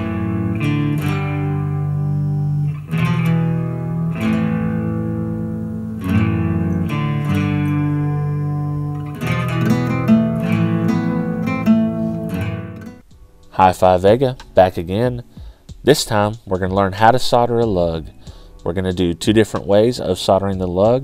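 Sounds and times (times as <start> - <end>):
guitar chords ringing: 0.0 - 21.0.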